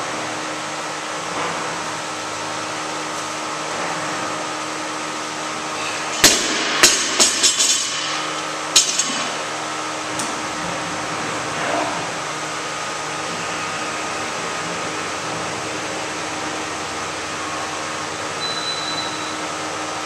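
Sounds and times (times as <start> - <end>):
fan hum: 0.0 - 20.0.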